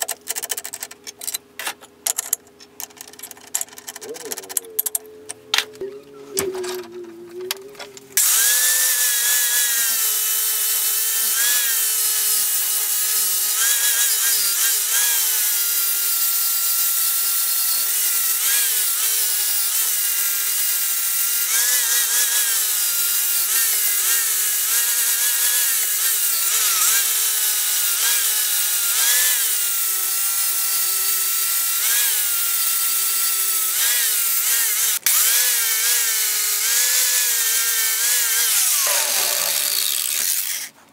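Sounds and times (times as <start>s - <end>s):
angle grinder motor whine: 4.5s - 40.8s.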